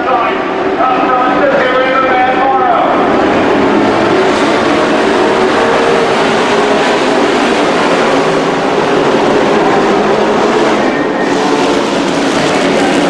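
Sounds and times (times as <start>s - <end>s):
many race truck engines: 0.0s - 13.0s.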